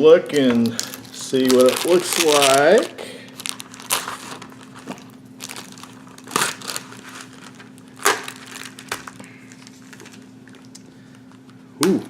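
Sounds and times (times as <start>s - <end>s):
plastic crinkling: 0.3s - 11.6s.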